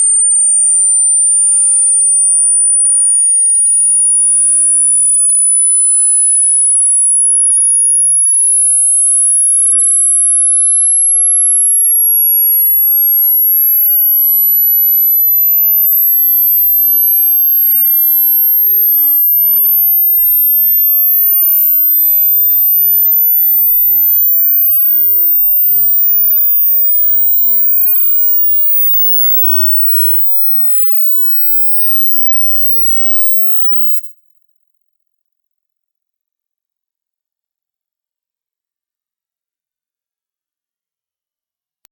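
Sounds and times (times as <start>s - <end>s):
high-pitched sine test tone: 0.0s - 35.2s.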